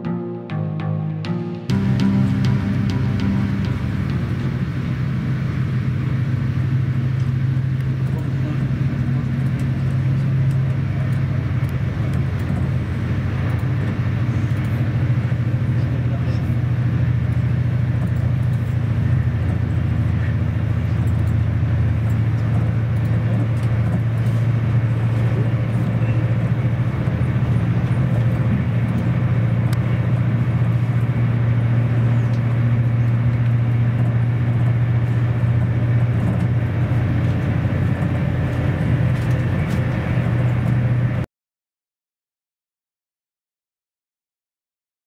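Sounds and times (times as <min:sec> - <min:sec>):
train rumble inside carriage: 0:01.7 - 0:41.2.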